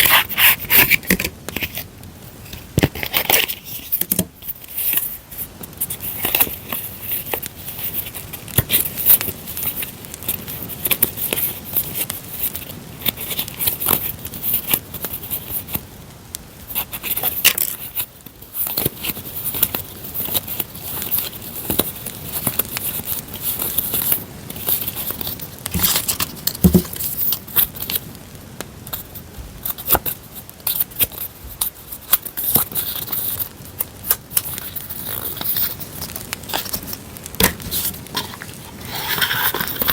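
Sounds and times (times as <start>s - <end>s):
paper rustling: 0.0s - 15.9s, 16.6s - 28.1s, 28.9s - 39.9s
crackling campfire: 0.9s - 3.3s, 4.7s - 39.9s.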